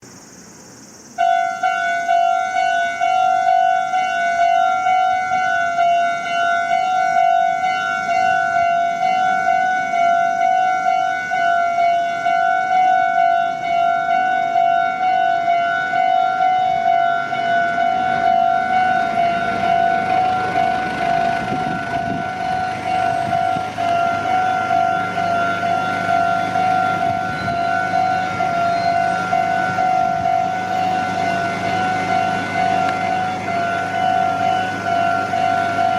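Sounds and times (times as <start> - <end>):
low train rumble: 0.0 - 35.9
railroad crossing bell ringing: 1.2 - 35.9.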